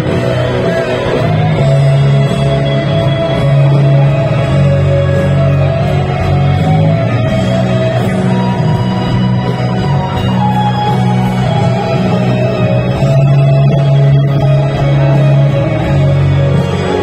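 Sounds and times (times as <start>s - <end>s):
electric guitar lead: 0.0s - 17.0s
low bass notes: 0.0s - 17.0s.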